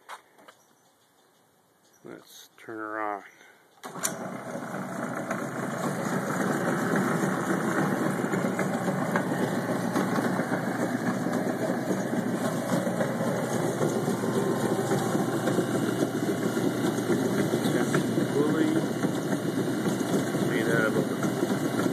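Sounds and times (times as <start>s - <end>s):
chicken plucker motor whirring: 3.8s - 21.9s.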